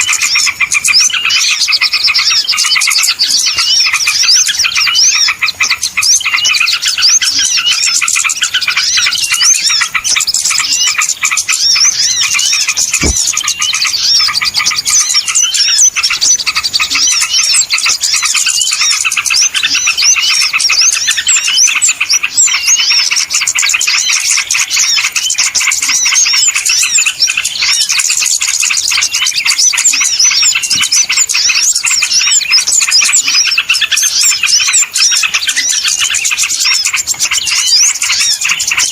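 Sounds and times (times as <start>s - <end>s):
chorus of small birds chirping: 0.0s - 38.9s.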